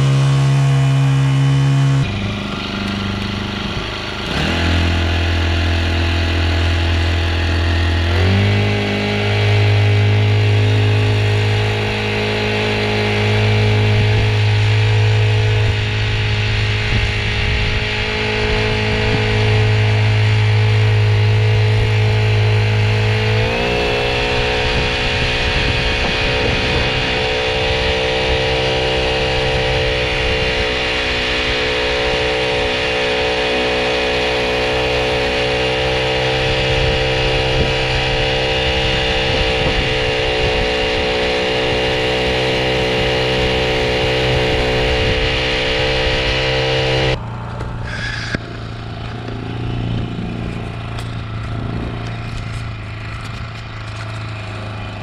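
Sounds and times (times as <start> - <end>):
outboard engine running: 0.0 - 55.0.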